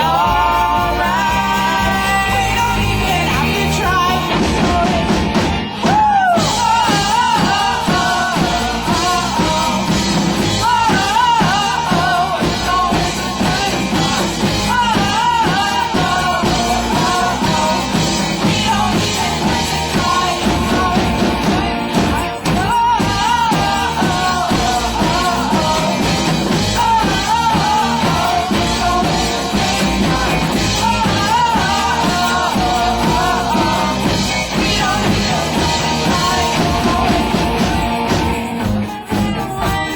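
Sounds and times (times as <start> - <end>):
rock music with singer: 0.0 - 39.9.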